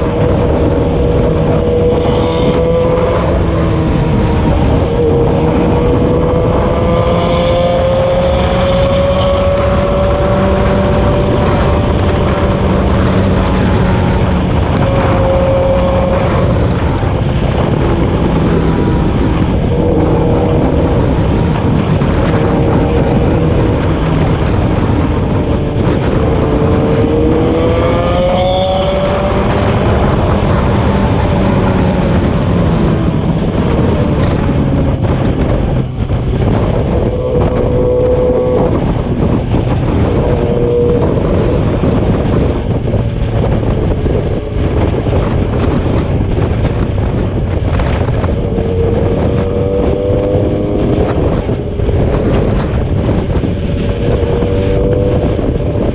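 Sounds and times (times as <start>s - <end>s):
engine accelerating: 0.0s - 55.9s
wind and road noise: 0.0s - 55.9s.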